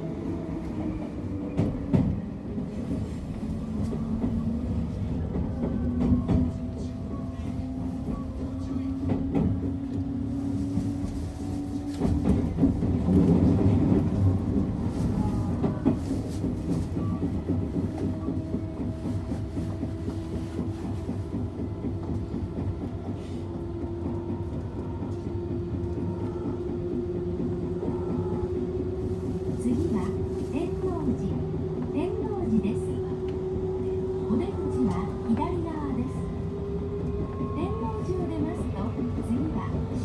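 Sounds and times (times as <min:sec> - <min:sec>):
train running rumble: 0:00.0 - 0:40.0.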